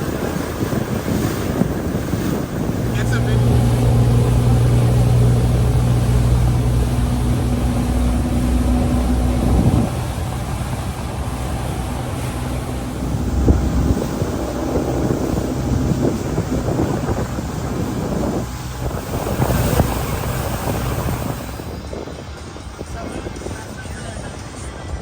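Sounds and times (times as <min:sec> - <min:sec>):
water slapping against hull: 0:00.0 - 0:23.7
motorboat engine humming: 0:00.0 - 0:25.0
wind on microphone: 0:00.0 - 0:25.0.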